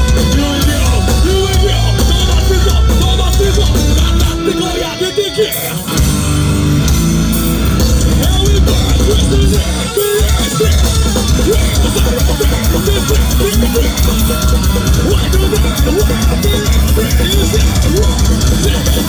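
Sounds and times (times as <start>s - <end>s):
metalcore band playing live: 0.0s - 19.0s.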